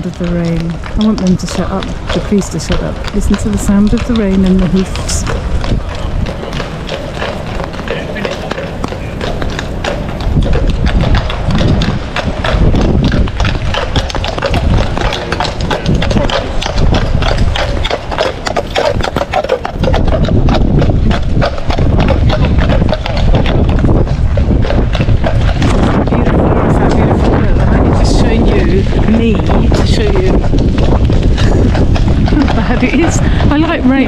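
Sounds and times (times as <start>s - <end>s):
horse hooves clip-clopping: 0.0s - 34.0s.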